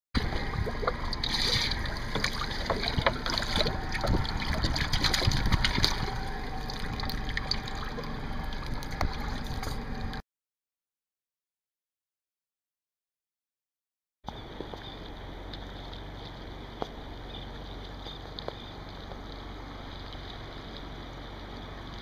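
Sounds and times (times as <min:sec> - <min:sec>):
water splashing and sloshing: 0:00.2 - 0:10.2, 0:14.3 - 0:22.0.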